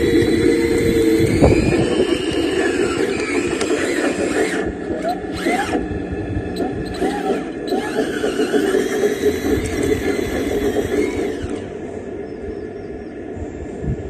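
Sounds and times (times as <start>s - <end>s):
rattling rumble: 0.0s - 12.8s
model bulldozer motors whining: 0.0s - 14.0s.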